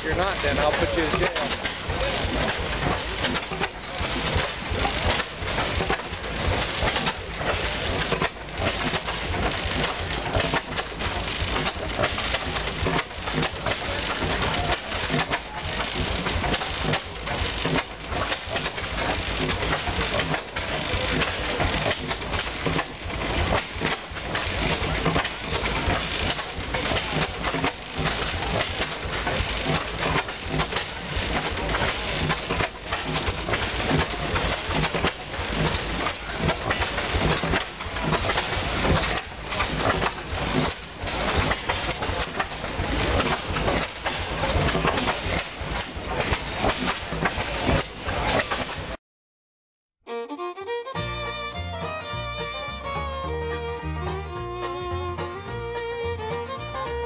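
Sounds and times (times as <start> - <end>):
engine clattering and knocking: 0.0 - 49.0, 51.2 - 57.0
steam hissing: 0.0 - 49.0.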